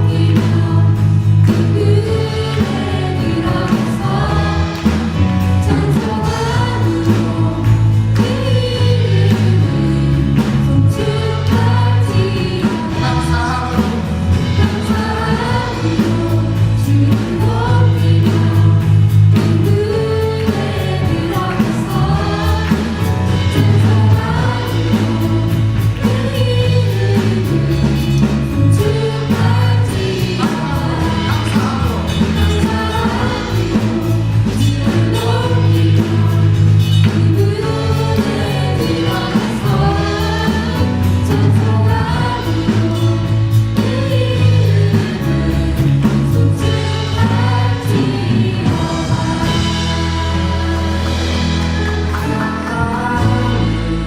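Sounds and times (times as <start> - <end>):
group singing worship song: 0.0 - 54.0
live band playing: 0.0 - 54.0.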